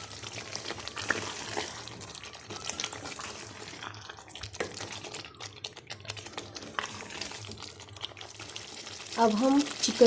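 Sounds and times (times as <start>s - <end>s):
wet stirring sounds: 0.0s - 10.0s.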